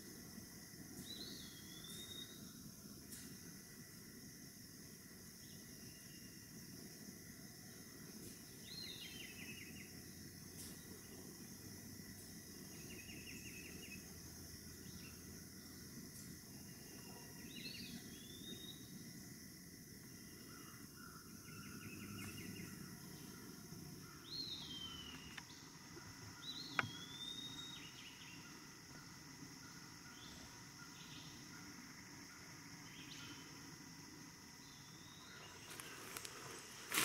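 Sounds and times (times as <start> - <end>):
high insect drone: 0.0 - 37.0.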